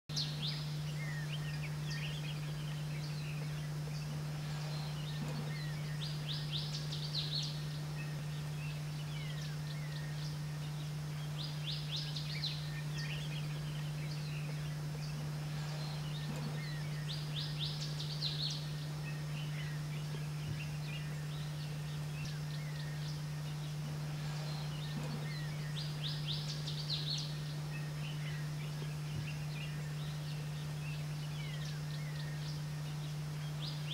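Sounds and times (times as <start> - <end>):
bird chirps: 0.1 - 33.9
songbird high trill: 0.1 - 33.9
steady low hum: 0.1 - 33.9.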